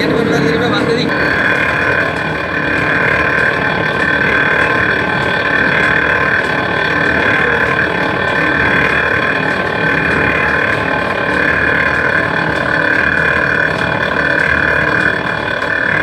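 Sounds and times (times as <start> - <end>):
constant high whine: 0.0 - 16.0
mill machinery drone: 0.0 - 16.0.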